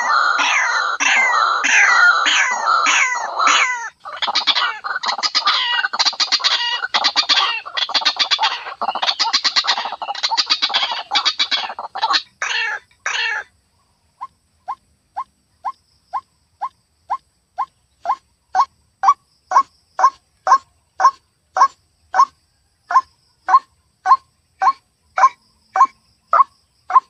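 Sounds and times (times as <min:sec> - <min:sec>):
waterhen croaking calls: 0:00.0 - 0:13.5, 0:14.2 - 0:27.0.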